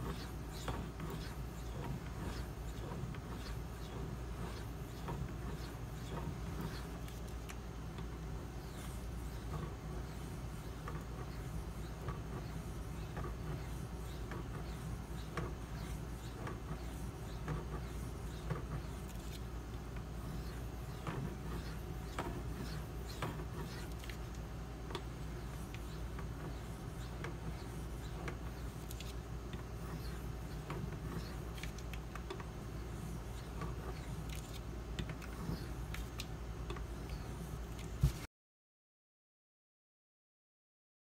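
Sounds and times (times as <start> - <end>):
steady low hum: 0.0 - 38.3.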